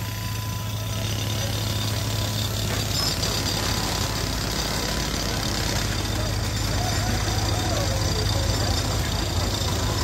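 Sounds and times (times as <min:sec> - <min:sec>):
tractor engine idling: 0:00.0 - 0:10.0.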